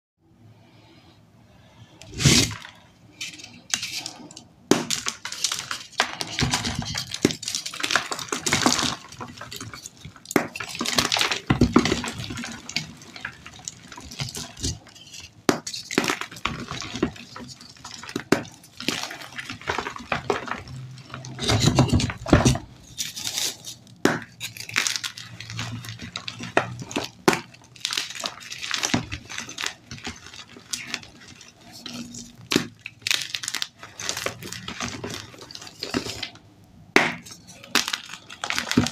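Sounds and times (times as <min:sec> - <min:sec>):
chalk crunching and crumbling: 0:02.0 - 0:36.4, 0:37.2 - 0:38.9.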